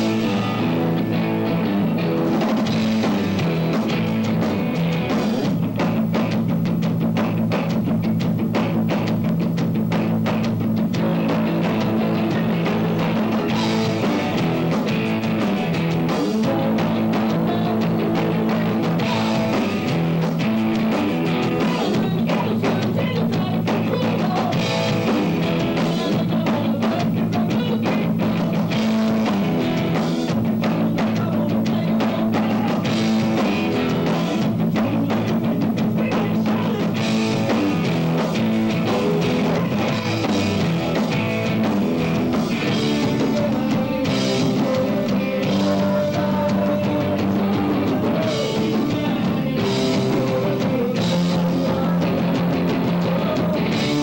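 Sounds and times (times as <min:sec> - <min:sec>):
drum kit beat: 0:00.0 - 0:54.0
rock band playing live: 0:00.0 - 0:54.0.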